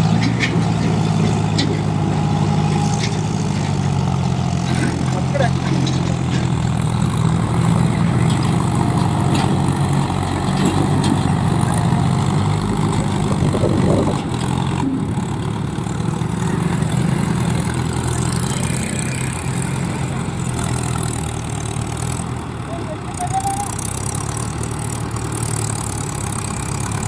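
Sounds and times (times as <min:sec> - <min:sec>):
diesel tractor engine running: 0:00.0 - 0:27.0.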